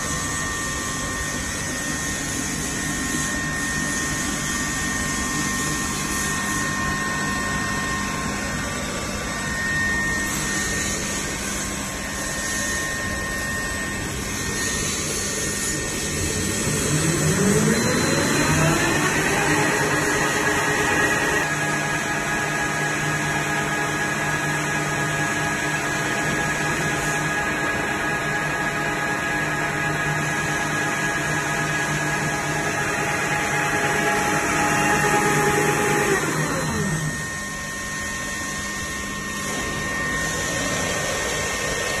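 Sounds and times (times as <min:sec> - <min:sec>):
faint hum with high tone: 0:00.0 - 0:42.0
machine motor whine: 0:00.0 - 0:42.0.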